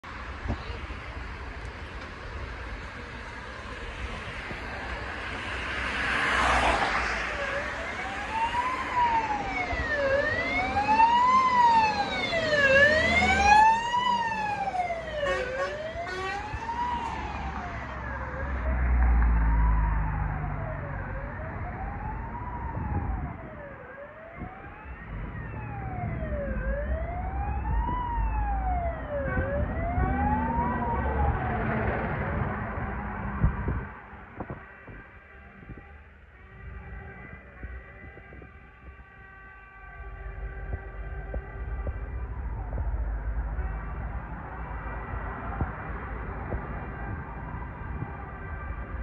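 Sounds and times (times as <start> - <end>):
traffic and engine rumble: 0.0 - 49.0
fire truck siren wailing: 4.9 - 49.0.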